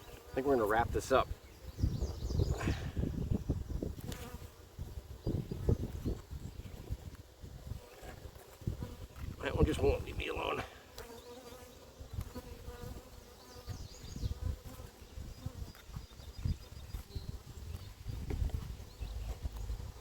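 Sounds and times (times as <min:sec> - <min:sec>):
bee flying close: 0:00.0 - 0:20.0
honeybees buzzing: 0:00.0 - 0:20.0.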